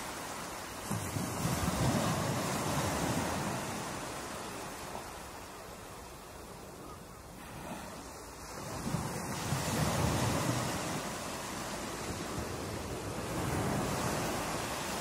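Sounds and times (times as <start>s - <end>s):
ocean surf breaking: 0.0s - 5.5s, 7.4s - 15.0s.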